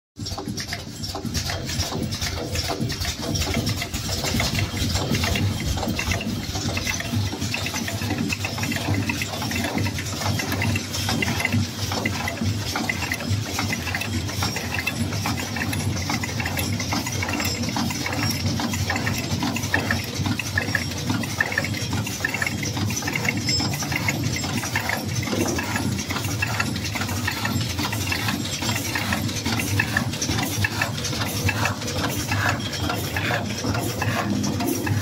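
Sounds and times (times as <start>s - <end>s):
packing machines clattering: 0.2s - 35.0s.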